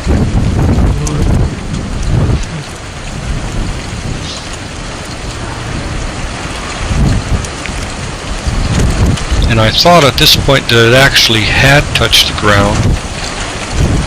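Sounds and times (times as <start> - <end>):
rain falling: 0.0 - 14.0
thunder rumble: 0.0 - 14.0.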